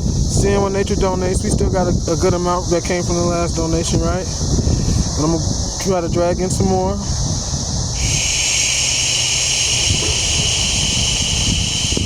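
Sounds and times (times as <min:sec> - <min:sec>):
high-pitched hiss: 0:00.0 - 0:07.3, 0:07.9 - 0:12.0
wind buffeting microphone: 0:00.0 - 0:12.0.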